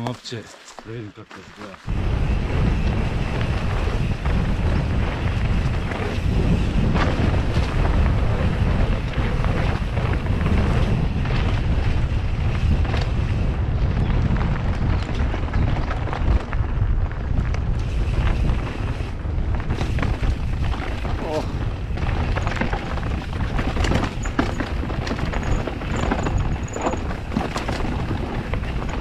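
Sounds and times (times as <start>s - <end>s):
tyres rumbling on dirt trail: 0.0s - 29.0s
wind buffeting microphone: 1.8s - 29.0s
bike knocking and rattling: 1.9s - 29.0s.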